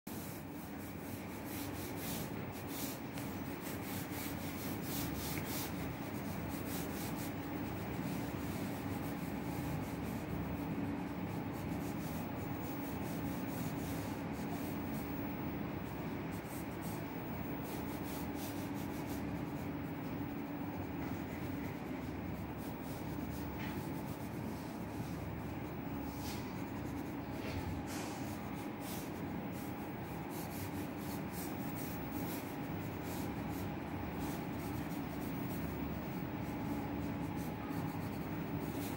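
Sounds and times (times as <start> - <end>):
low background hum: 0.0 - 38.9
pencil scratching on paper: 0.1 - 38.9.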